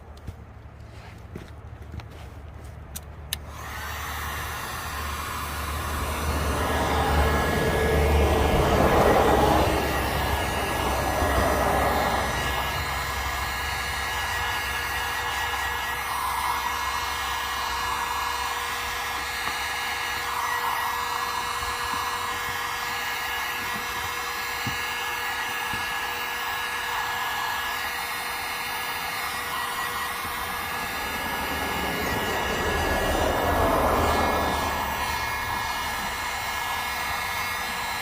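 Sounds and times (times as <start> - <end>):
heat gun fan whining: 2.4 - 38.0.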